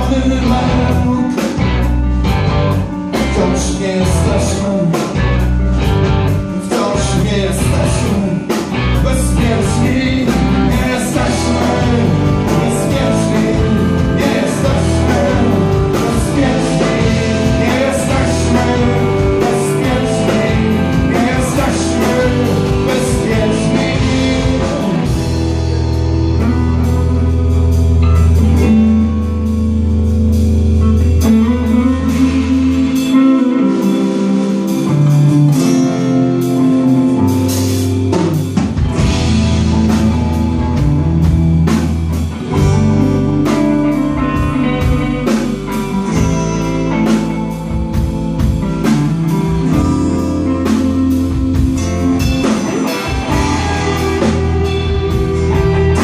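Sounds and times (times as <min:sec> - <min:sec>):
drum kit beat: 0:00.0 - 0:56.0
guitars: 0:00.0 - 0:56.0
instrumental rock music: 0:00.0 - 0:56.0.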